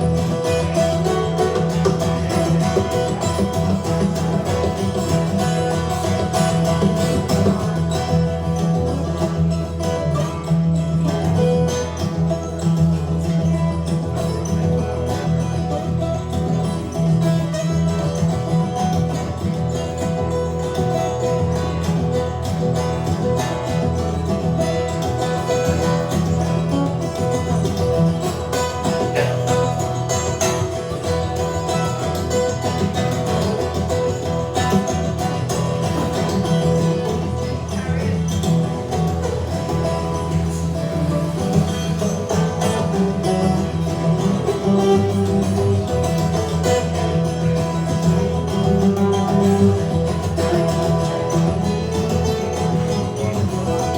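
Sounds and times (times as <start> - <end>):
plucked acoustic guitar: 0.0 - 53.9.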